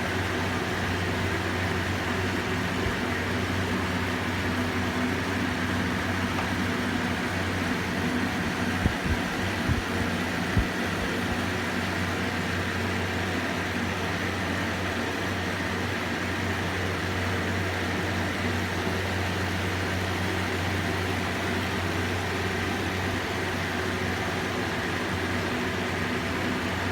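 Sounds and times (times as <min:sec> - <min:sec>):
electric fan humming and whirring: 0:00.0 - 0:26.9.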